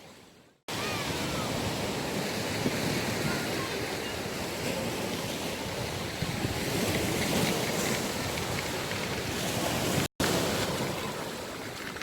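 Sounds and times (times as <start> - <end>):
sea waves washing in: 0.0 - 12.0
wind rumbling on microphone: 0.8 - 12.0.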